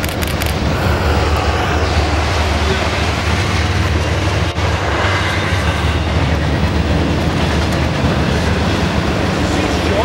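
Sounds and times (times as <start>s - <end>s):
freight train rumbling past: 0.0s - 10.0s
steel wheels on rail: 0.0s - 10.0s.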